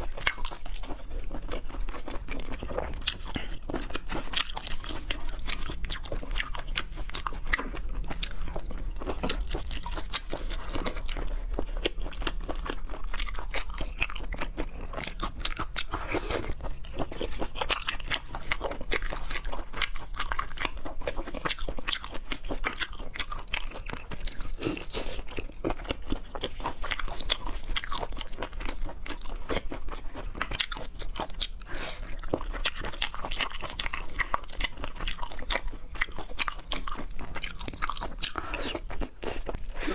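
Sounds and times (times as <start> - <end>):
chewing and crunching seafood: 0.0 - 39.9.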